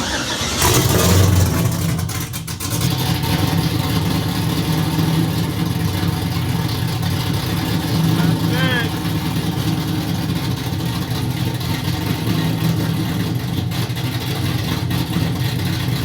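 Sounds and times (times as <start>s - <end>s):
race car engine running: 0.0s - 16.0s.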